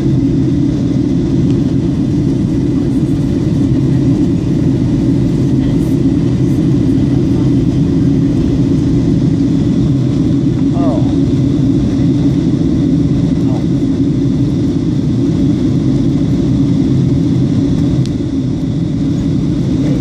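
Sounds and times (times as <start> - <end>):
airplane cabin engine drone: 0.0 - 20.0.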